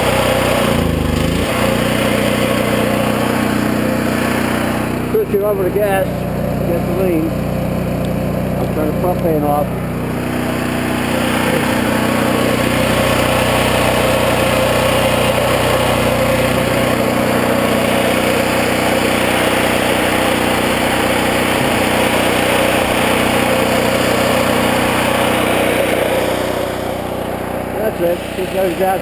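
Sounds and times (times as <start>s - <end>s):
generator engine humming: 0.0s - 29.0s.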